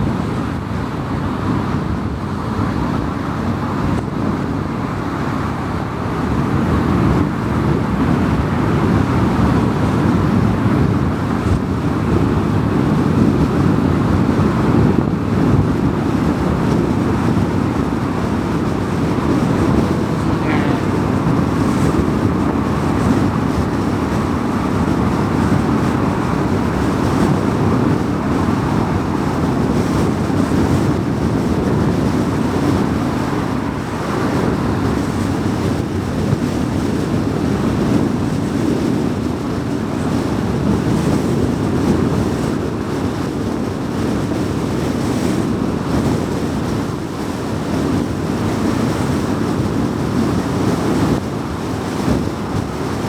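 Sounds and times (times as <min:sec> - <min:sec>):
wind noise: 0:00.0 - 0:53.0.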